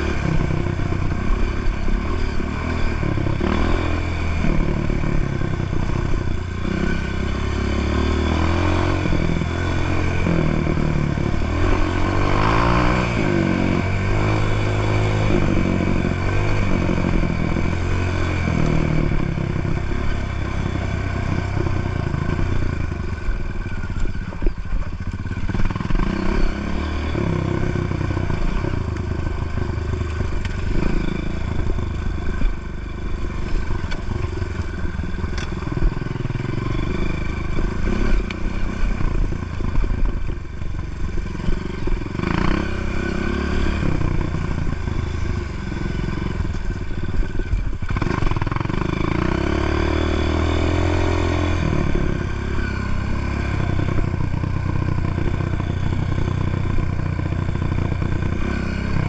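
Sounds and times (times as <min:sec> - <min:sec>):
dirt bike engine revving: 0:00.0 - 0:23.4, 0:24.0 - 0:40.2, 0:40.9 - 0:59.0.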